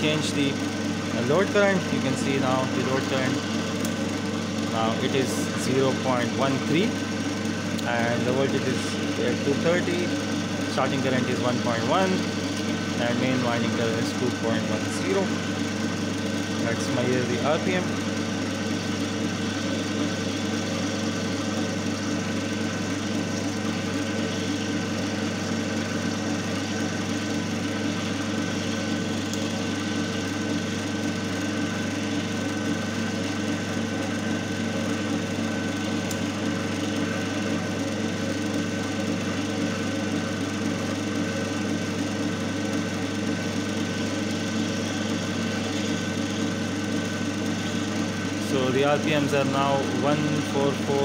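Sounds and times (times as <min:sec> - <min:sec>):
electric motor humming: 0:00.0 - 0:51.0.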